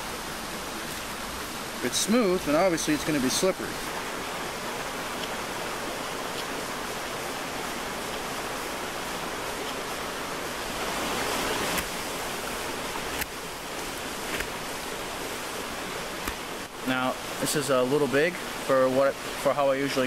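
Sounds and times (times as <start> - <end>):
rain falling in woods: 0.0 - 20.0.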